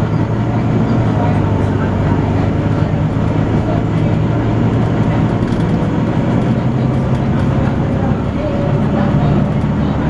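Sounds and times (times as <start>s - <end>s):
bus diesel engine running: 0.0s - 10.0s.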